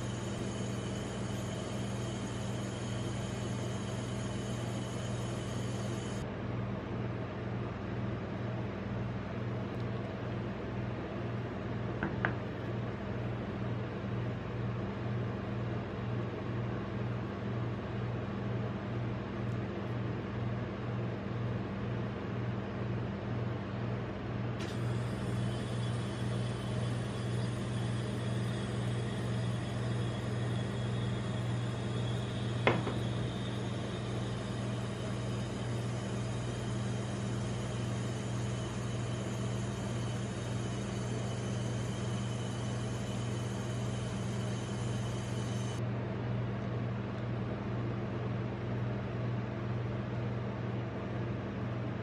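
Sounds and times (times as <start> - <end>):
refrigeration unit humming: 0.0 - 52.0.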